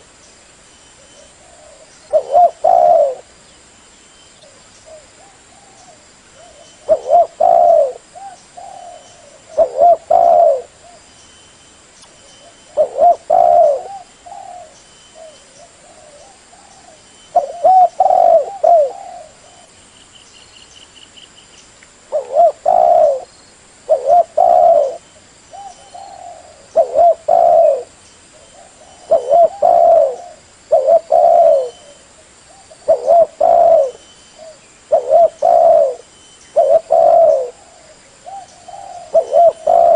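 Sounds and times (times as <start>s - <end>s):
dove cooing: 1.1s - 3.3s, 4.4s - 11.0s, 12.4s - 19.8s, 22.1s - 23.3s, 23.9s - 39.9s.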